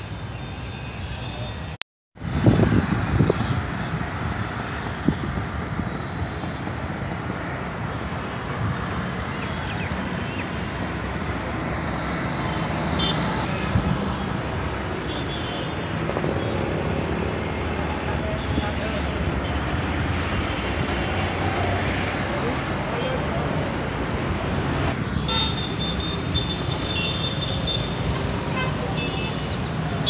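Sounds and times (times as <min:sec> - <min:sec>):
road traffic engine and tyre noise: 0:00.0 - 0:30.0.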